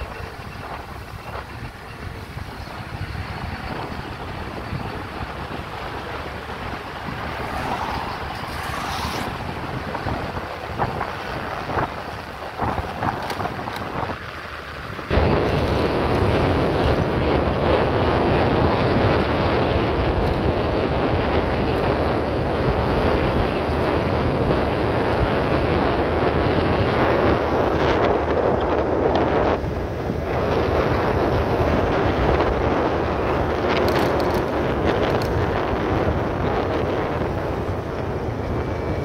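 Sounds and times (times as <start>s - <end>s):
road and motor noise: 0.0s - 39.0s
wind rushing over microphone: 0.0s - 39.0s.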